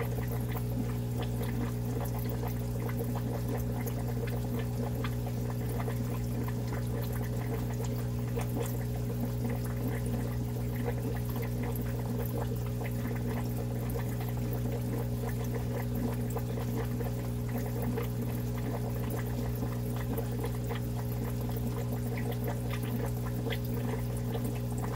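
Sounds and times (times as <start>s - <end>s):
low electric hum: 0.0s - 24.9s
water trickling and splashing: 0.0s - 24.9s.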